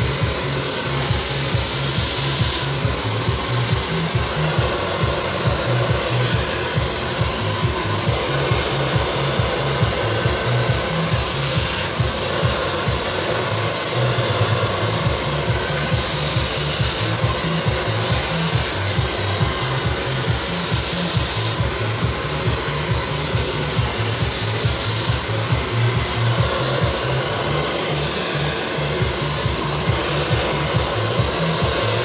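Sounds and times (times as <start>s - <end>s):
hair dryer blowing: 0.0s - 32.0s
music with repeating bass beat: 0.0s - 32.0s.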